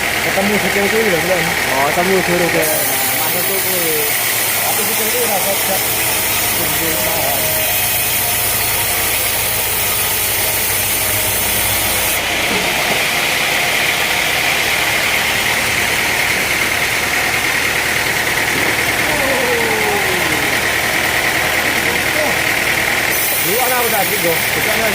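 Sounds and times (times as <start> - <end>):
sawmill saw running: 0.0 - 24.9.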